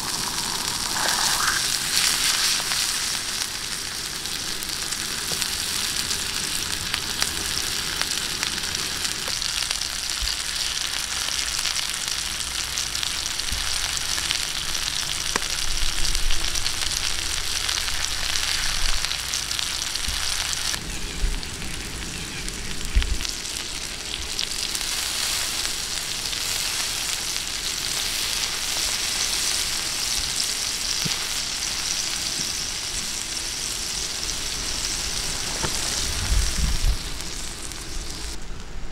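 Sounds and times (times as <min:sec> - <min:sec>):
food sizzling on hot stone: 0:00.0 - 0:38.6.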